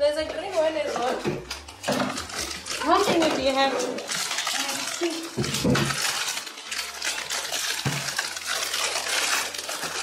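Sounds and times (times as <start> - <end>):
water running: 0.1 - 10.0.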